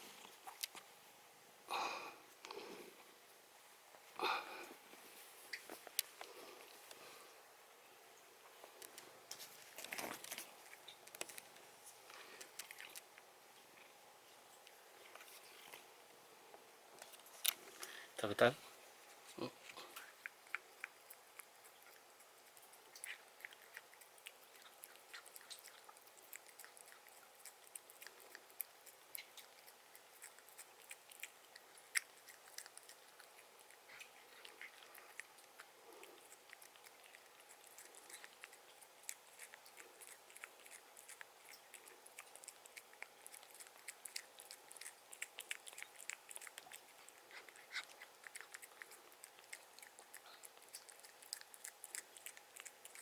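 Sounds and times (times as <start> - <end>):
cat chewing food: 0.0 - 1.0, 4.3 - 7.5, 8.5 - 53.0.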